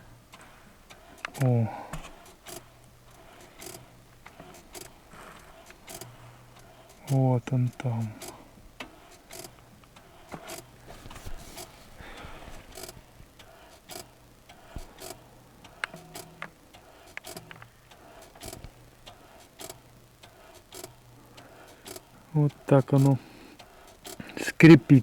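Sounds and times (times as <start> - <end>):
clutch squeaking ticks: 0.3 - 25.0.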